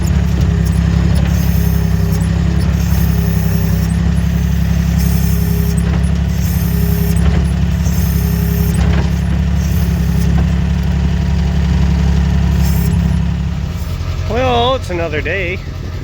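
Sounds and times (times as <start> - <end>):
high-pitched rattles: 0.0 - 14.8
farm vehicle engine humming: 0.0 - 16.0.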